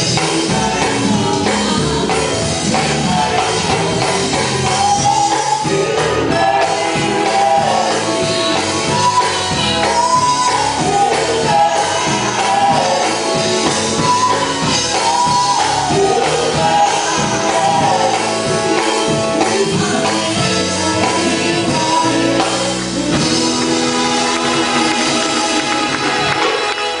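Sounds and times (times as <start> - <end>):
band with drum kit: 0.0 - 27.0
vocal group singing gospel: 0.0 - 27.0.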